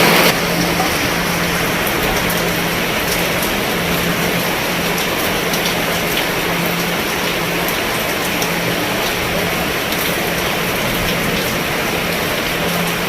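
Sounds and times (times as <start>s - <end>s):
rain falling on a roof: 0.0s - 13.0s.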